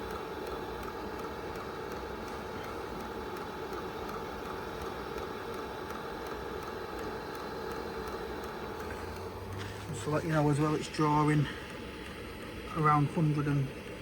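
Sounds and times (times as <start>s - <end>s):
fuel pump ticking: 0.0s - 14.0s
heater blower fan humming: 0.0s - 14.0s.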